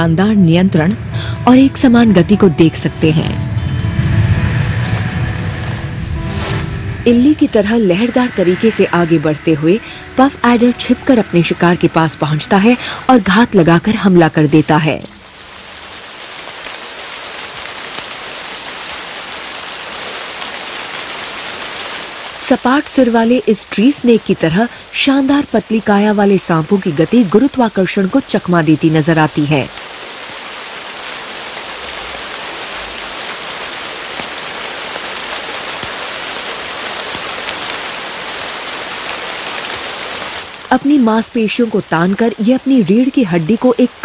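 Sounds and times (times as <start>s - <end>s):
rain falling on foliage: 0.0s - 44.0s
raindrop ticks: 7.4s - 44.0s.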